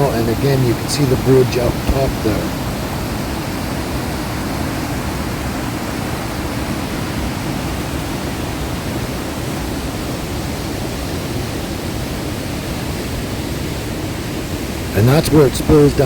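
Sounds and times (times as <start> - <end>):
waterfall and rapids rushing: 0.0 - 16.0.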